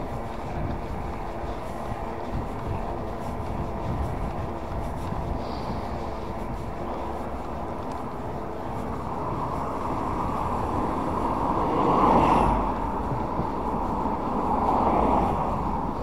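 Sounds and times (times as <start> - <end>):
road and tyre rumble: 0.0 - 16.0
wind rushing over microphone: 0.0 - 16.0.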